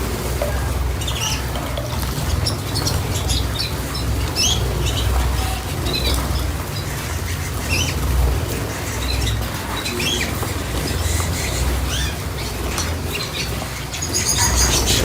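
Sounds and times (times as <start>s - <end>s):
cage birds chirping: 0.0s - 15.0s.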